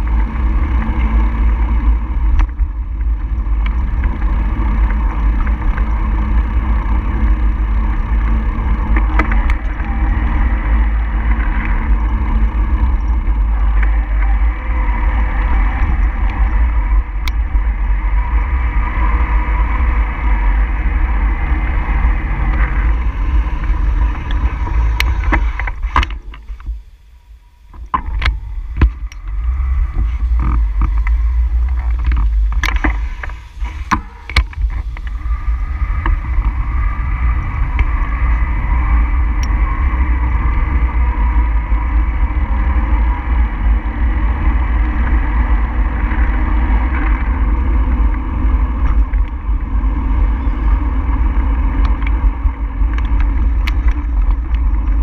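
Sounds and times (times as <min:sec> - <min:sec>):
wind and road noise rumble: 0:00.0 - 0:55.0.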